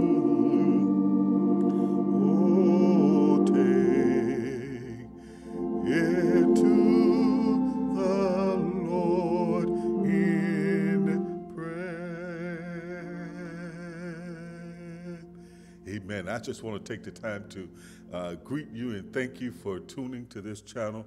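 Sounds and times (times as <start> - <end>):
church music: 0.0 - 21.0.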